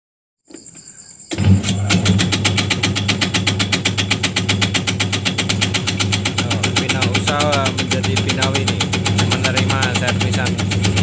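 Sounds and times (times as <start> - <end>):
machine motor humming: 1.3 - 11.0
cutter mechanism clicking rapidly: 1.6 - 11.0.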